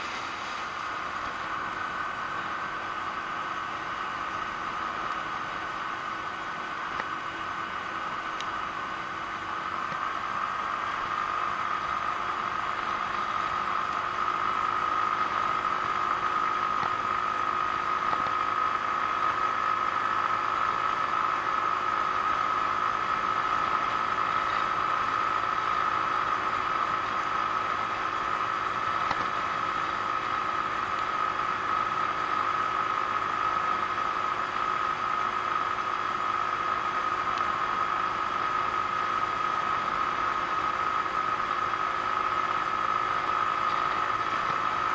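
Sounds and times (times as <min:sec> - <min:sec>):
scooter engine whine: 0:00.0 - 0:44.9.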